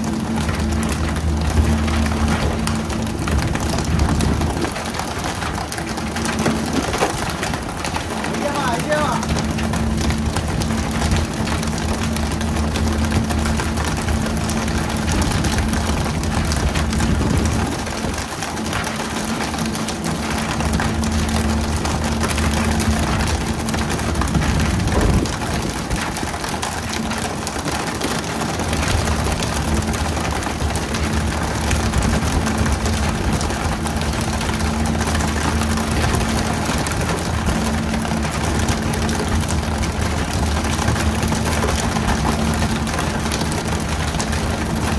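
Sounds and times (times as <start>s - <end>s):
boat engine humming: 0.0s - 44.9s.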